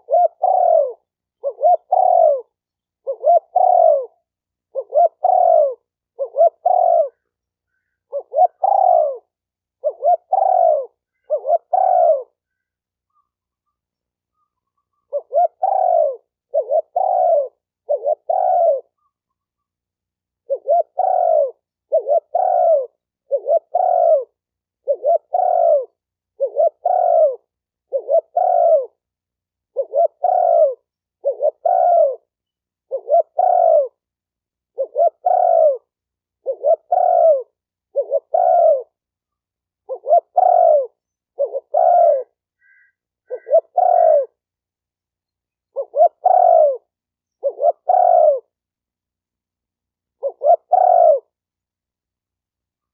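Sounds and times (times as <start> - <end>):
dove cooing: 0.0 - 34.1, 34.7 - 39.1, 39.8 - 44.4, 45.6 - 48.6, 50.1 - 51.4.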